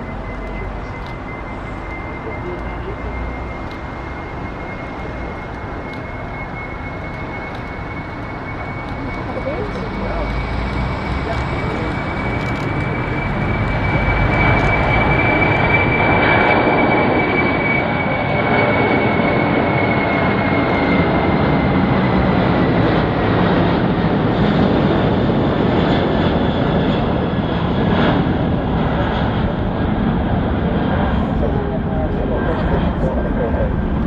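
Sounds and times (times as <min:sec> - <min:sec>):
high engine whine: 0:00.0 - 0:34.0
jet engines roaring at takeoff: 0:00.0 - 0:34.0.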